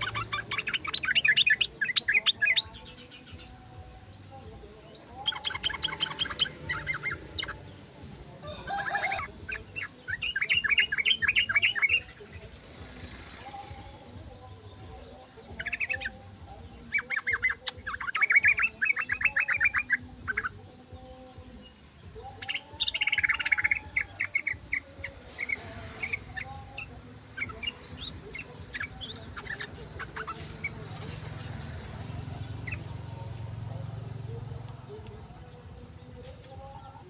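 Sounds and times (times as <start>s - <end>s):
bird chattering song: 0.0s - 37.0s.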